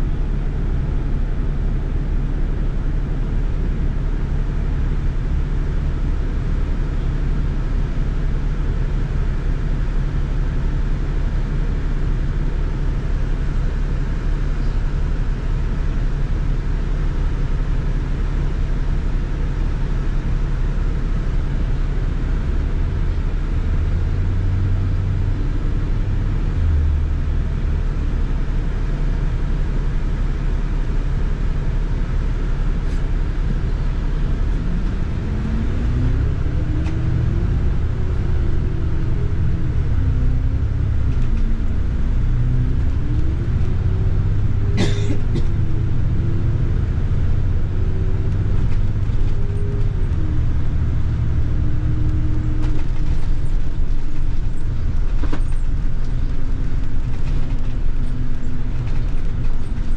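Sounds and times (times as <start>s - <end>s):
bus engine and road rumble: 0.0s - 59.9s
drivetrain whine: 0.0s - 59.9s.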